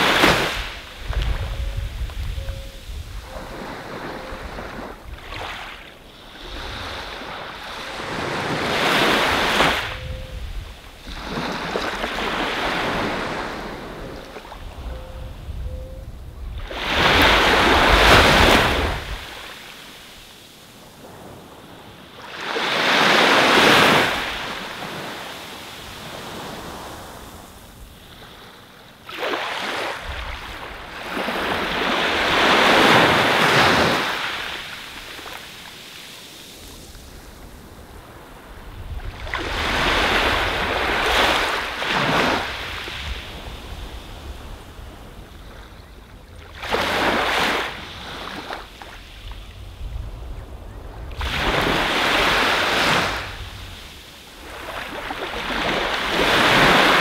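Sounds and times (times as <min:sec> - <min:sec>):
small waves breaking on beach: 0:00.0 - 0:10.1, 0:10.7 - 0:14.8, 0:16.6 - 0:57.0.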